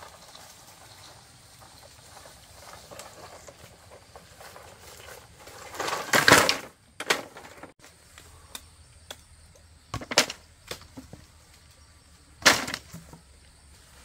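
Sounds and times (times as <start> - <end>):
bamboo and branches clattering: 0.0 - 14.0.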